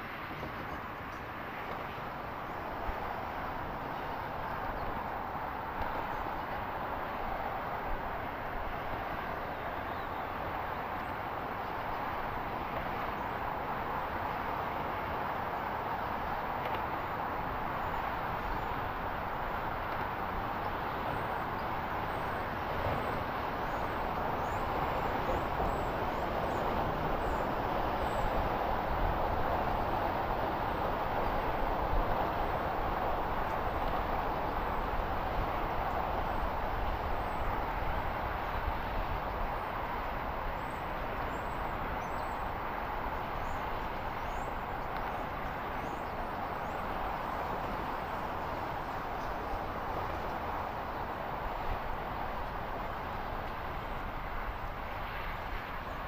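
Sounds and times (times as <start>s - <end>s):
steady outdoor rush: 0.0s - 56.0s.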